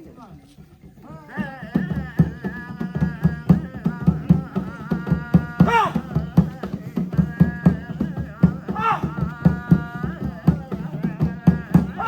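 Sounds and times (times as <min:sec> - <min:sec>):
fast hand-drum rhythm: 0:00.0 - 0:12.0.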